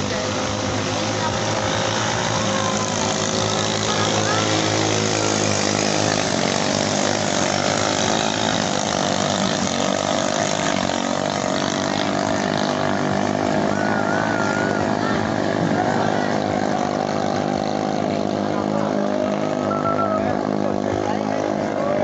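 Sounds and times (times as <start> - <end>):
racing boat engines revving high: 0.0 - 22.0.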